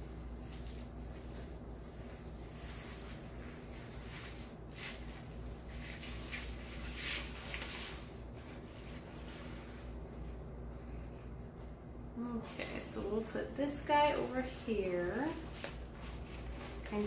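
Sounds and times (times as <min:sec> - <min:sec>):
low steady hum: 0:00.0 - 0:17.0
mesh and ribbon rustling: 0:00.0 - 0:17.0.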